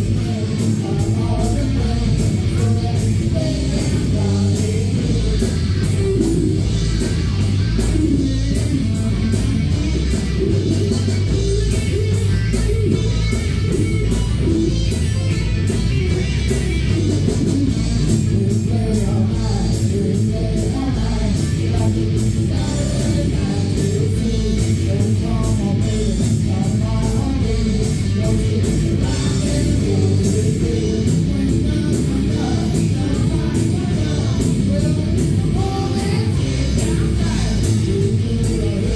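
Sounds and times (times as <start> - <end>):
person singing: 0.0 - 6.8, 7.8 - 15.0, 16.1 - 38.9
bass guitar: 0.0 - 38.9
drum beat with cymbals: 0.0 - 38.9
electric guitar: 0.0 - 38.9.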